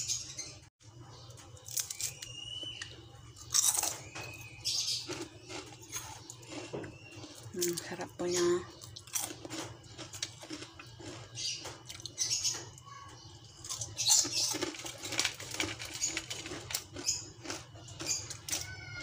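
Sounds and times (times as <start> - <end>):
crispy fried fish crunching: 1.4 - 8.0, 8.7 - 12.5, 13.5 - 19.0.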